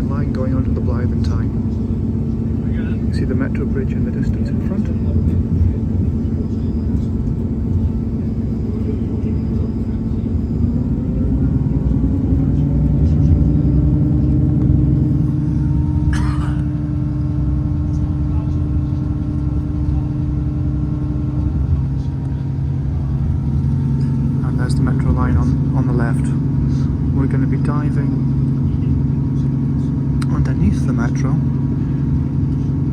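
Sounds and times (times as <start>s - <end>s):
diesel engine hum: 0.0s - 32.9s
train wheels rumbling on rail: 0.0s - 32.9s.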